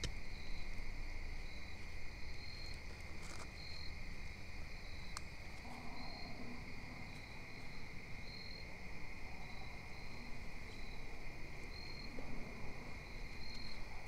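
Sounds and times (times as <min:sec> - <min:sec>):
crickets trilling: 0:00.0 - 0:14.0
short cricket chirps: 0:00.0 - 0:14.0.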